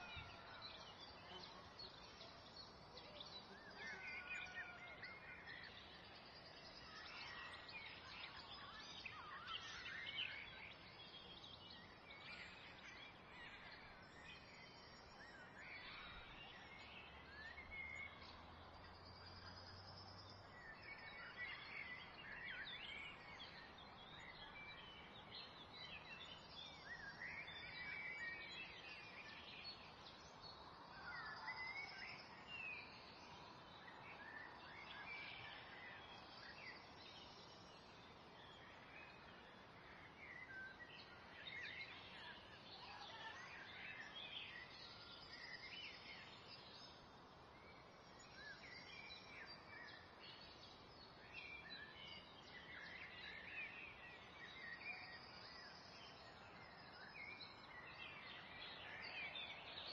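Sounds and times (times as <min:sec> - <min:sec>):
soft steady hiss: 0:04.9 - 0:59.9.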